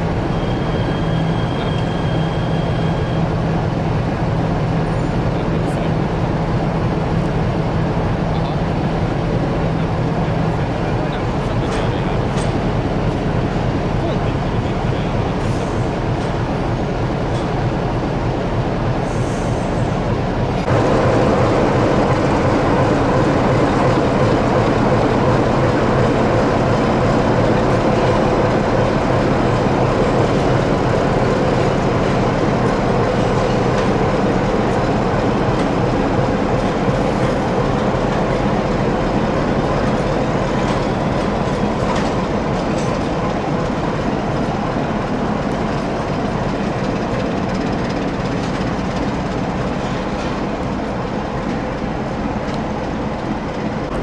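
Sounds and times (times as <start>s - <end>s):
diesel locomotive engine drone: 0.0s - 54.0s
electric train: 0.0s - 54.0s.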